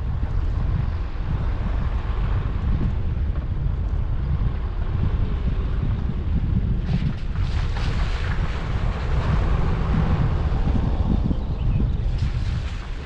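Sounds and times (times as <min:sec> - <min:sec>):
car driving on road: 0:00.0 - 0:13.0
wind buffeting microphone: 0:00.0 - 0:13.0.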